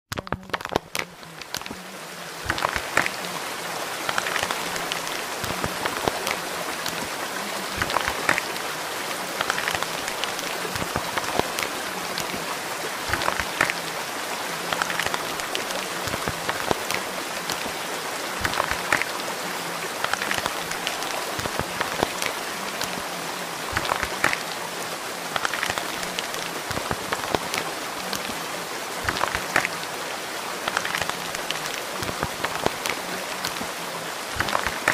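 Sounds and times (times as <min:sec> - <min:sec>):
steady rain with drops ticking: 0:00.0 - 0:34.9.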